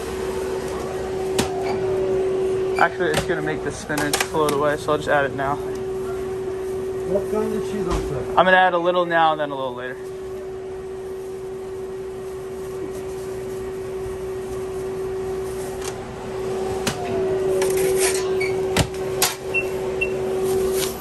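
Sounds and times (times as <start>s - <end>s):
electrical hum of kitchen equipment: 0.0s - 21.0s.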